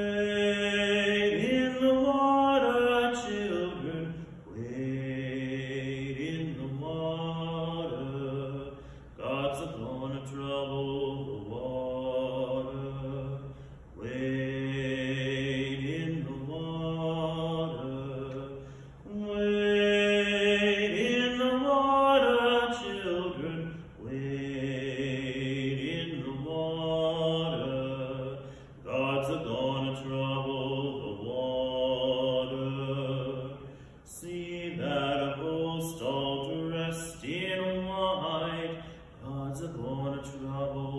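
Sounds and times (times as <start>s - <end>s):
man singing a hymn: 0.0s - 40.9s.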